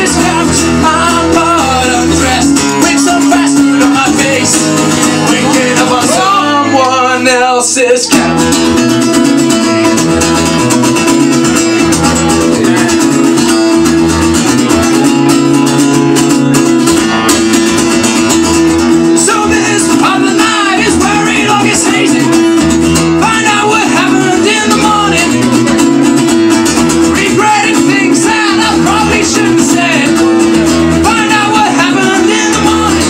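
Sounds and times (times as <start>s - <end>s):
man singing: 0.0s - 15.3s, 18.9s - 33.0s
acoustic guitar strumming: 0.0s - 33.0s.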